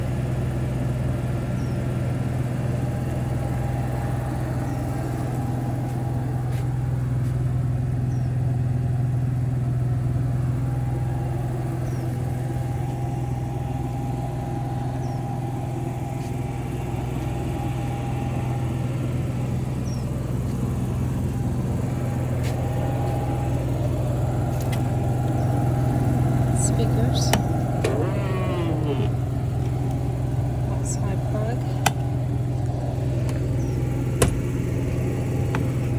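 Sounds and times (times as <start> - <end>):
low engine hum: 0.0 - 35.9.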